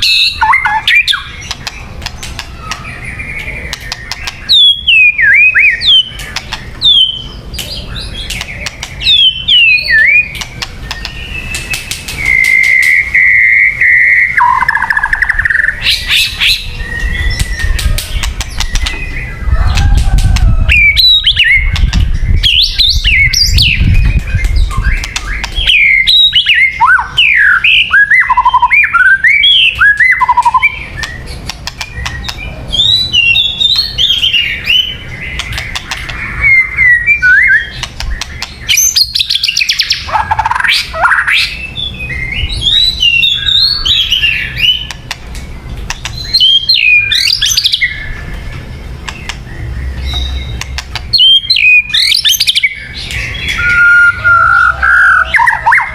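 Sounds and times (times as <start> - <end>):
bird singing: 0.0 - 55.9.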